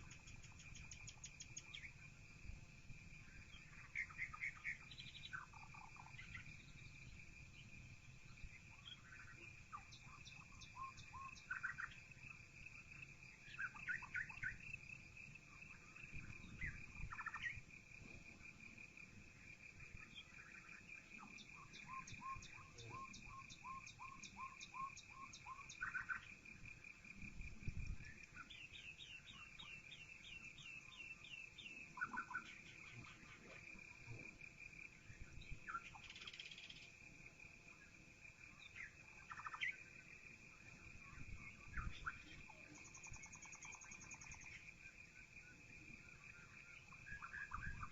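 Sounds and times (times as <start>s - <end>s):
birds chirping and trilling: 0.0s - 2.1s, 3.2s - 12.5s, 13.2s - 18.2s, 19.4s - 26.4s, 27.3s - 37.0s, 37.8s - 47.9s.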